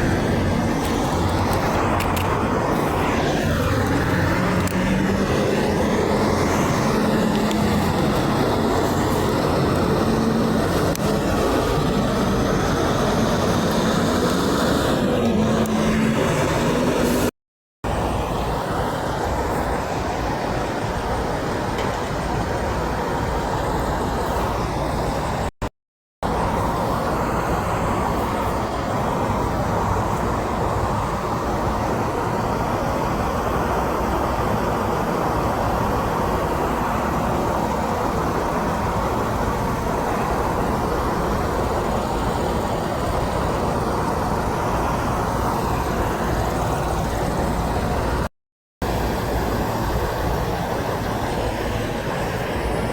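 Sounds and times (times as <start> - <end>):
road traffic noise: 0.0 - 52.9.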